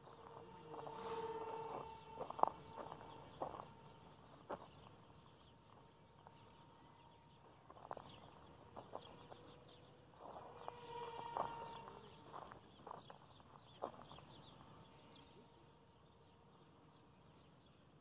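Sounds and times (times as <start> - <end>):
faint bird chirps: 0.0 - 17.9
small electric motor whine: 0.0 - 18.0.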